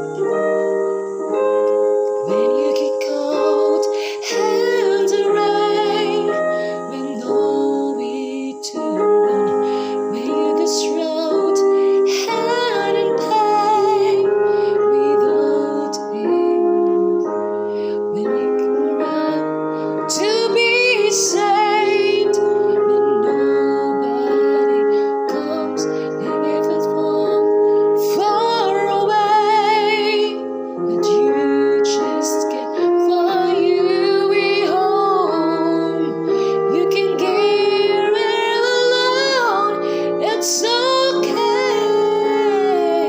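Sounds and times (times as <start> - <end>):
woman singing with vibrato: 0.0 - 1.4, 2.2 - 43.0
piano accompaniment: 0.0 - 43.0.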